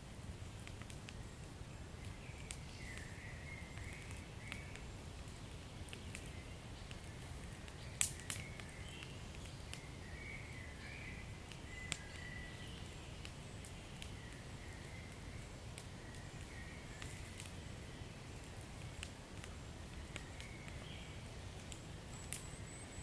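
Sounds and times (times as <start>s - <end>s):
wood fire crackling: 0.0s - 23.0s
sharp pops of fire: 0.4s - 10.2s, 11.4s - 17.7s, 18.3s - 22.6s.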